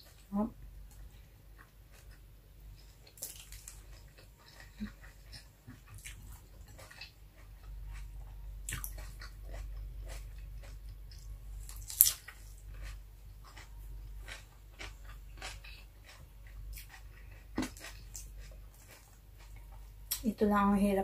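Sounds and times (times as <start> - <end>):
chewing and lip-smacking: 2.8 - 20.2.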